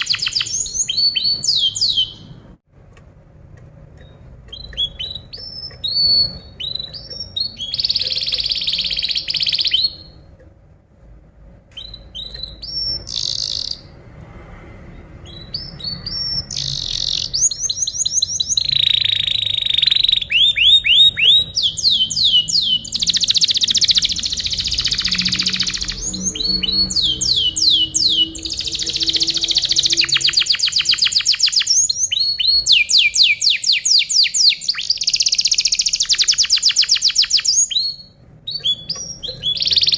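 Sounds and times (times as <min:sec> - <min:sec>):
canary singing: 0:00.0 - 0:02.6, 0:04.0 - 0:10.4, 0:11.7 - 0:14.0, 0:15.1 - 0:39.9.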